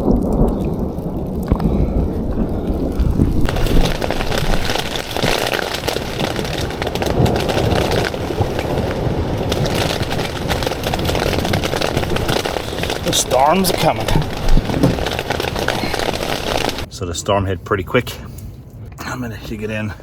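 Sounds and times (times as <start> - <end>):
low wind rumble: 0.0 - 20.0
rain pattering: 0.0 - 20.0.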